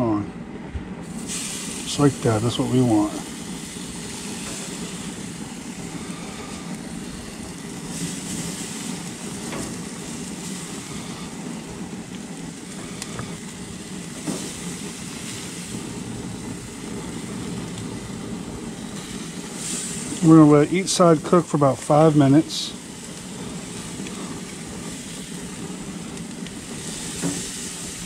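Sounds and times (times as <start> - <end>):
steady low rumble: 0.0 - 28.0
octopus sizzling on grill: 1.0 - 28.0.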